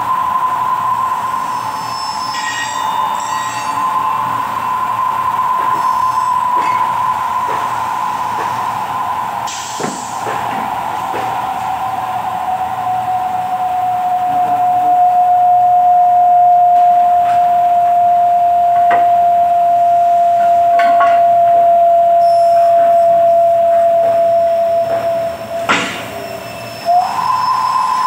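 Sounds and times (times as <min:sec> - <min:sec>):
milling machine whining: 0:01.7 - 0:28.0.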